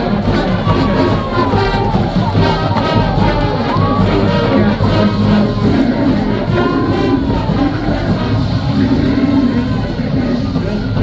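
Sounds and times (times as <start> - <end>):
crowd noise: 0.0 - 11.0
marching band brass playing: 0.0 - 11.0.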